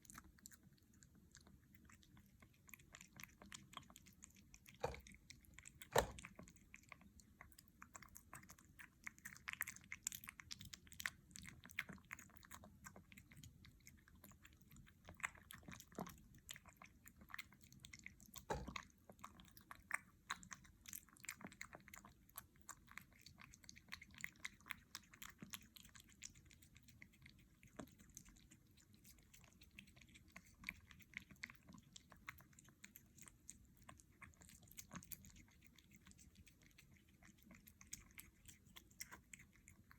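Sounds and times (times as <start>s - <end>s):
kitten chewing wet food: 0.0s - 39.9s.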